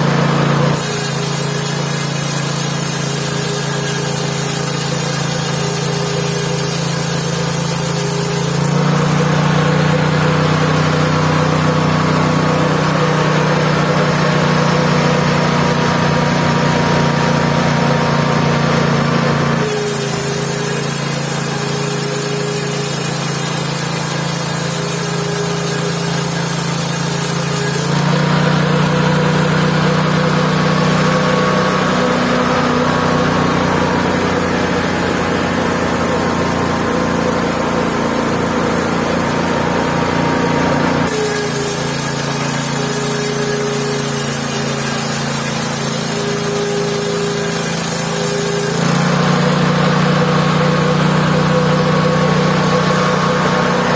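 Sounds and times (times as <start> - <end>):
sawmill engine droning: 0.0 - 53.9.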